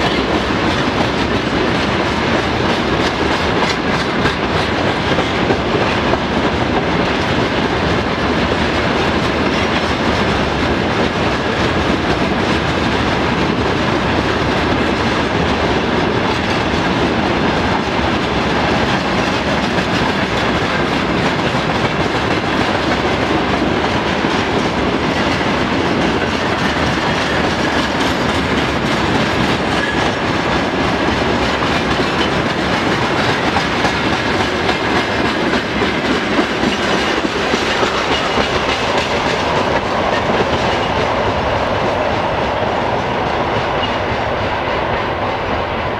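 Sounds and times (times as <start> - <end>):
train wheels clattering on rails: 0.0 - 45.9.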